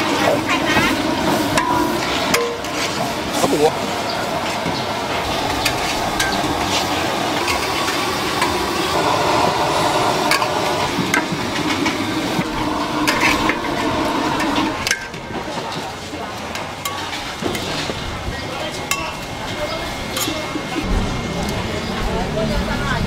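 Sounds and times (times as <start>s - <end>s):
steady sizzle: 0.0s - 23.0s.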